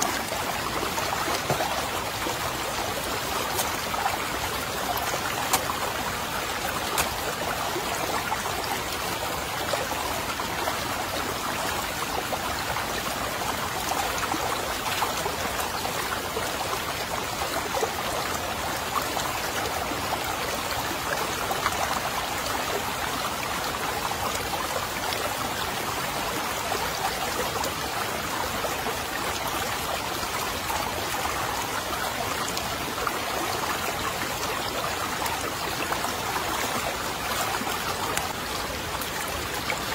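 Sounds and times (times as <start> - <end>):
stream rushing and trickling: 0.0 - 39.9.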